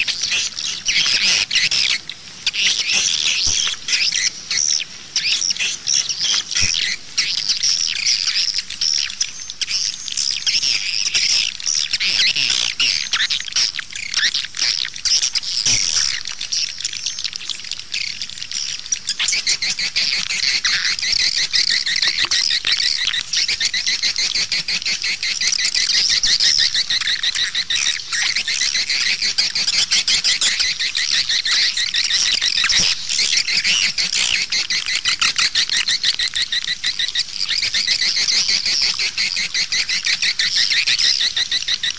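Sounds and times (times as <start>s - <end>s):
swiftlets chattering and twittering: 0.0s - 41.9s.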